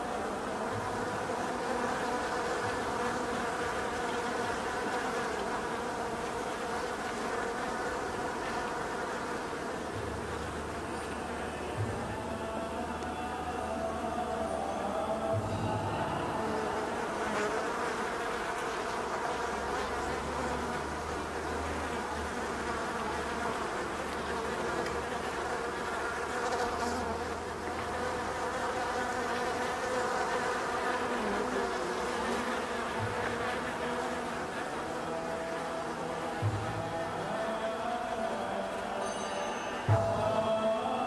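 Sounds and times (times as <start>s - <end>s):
honey bees buzzing: 0.0s - 41.0s.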